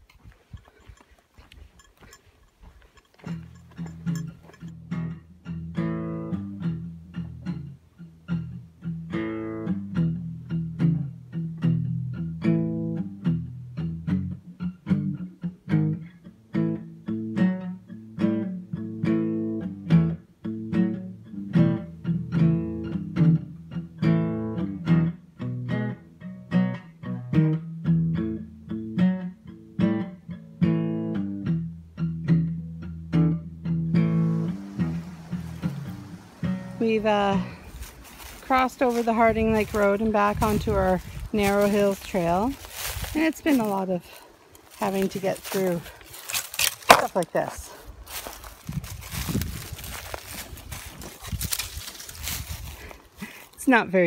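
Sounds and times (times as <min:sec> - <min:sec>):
guitar tune of plucked notes: 0:00.2 - 0:54.0.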